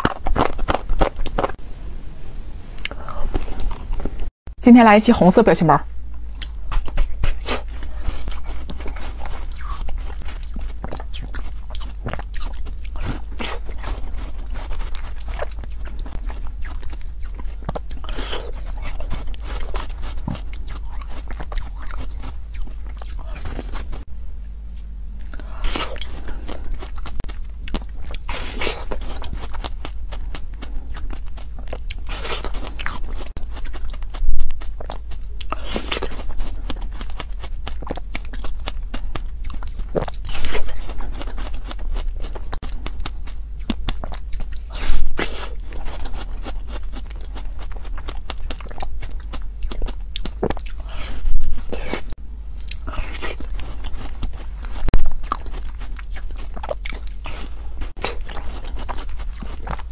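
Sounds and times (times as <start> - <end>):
chewing with wet mouth clicks: 6.3 - 24.1, 25.2 - 59.9.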